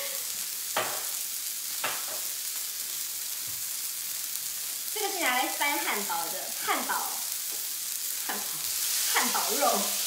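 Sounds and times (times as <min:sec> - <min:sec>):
burger patties sizzling on griddle: 0:00.0 - 0:10.0.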